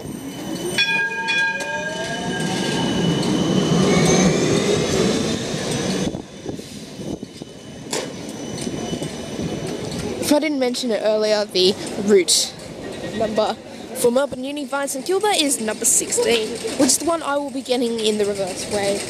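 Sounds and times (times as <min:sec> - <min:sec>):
tram rumbling past: 0:00.0 - 0:19.0.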